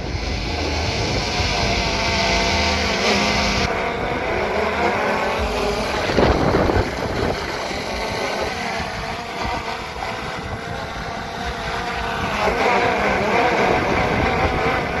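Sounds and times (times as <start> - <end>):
drone propellers whining: 0.0 - 15.0
wind rumble on microphone: 0.0 - 15.0.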